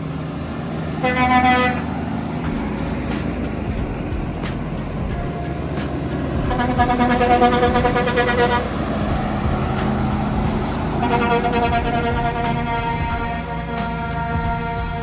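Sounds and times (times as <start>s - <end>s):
pulsing multi-tone horn blast: 0.0s - 15.0s
truck engine running: 0.0s - 15.0s.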